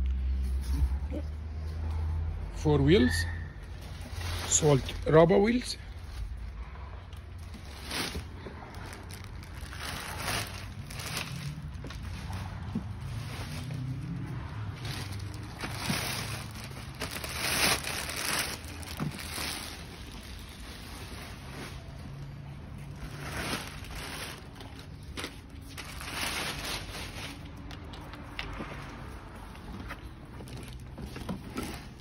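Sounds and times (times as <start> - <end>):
plastic wrapping rustling: 3.7 - 32.0.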